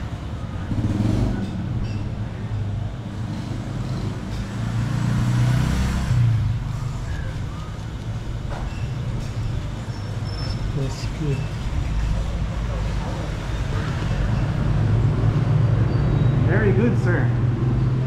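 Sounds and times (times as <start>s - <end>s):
street traffic engine rumble: 0.0s - 18.0s.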